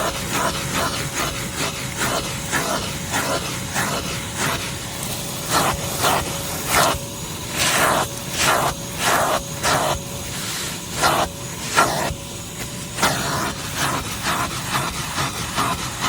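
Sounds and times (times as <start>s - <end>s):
shop vacuum running: 0.0s - 16.0s
vacuum nozzle swishing: 0.0s - 16.0s.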